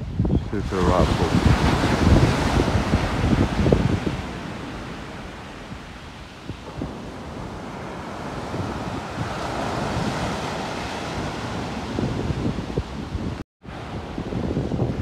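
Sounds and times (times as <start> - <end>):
wind buffeting microphone: 0.0 - 15.0
surf breaking on beach: 0.5 - 15.0.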